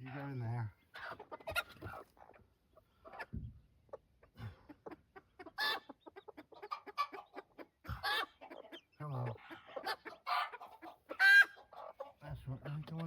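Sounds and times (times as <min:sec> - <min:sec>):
hens clucking and squawking: 0:00.0 - 0:13.0.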